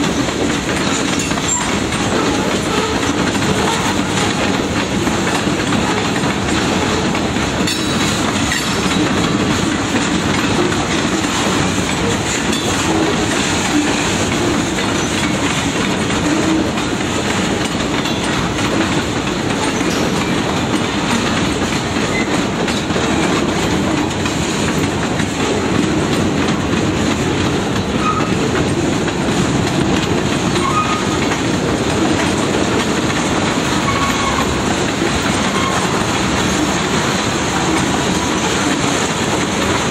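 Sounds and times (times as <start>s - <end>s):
freight train wheels on track: 0.0s - 39.9s.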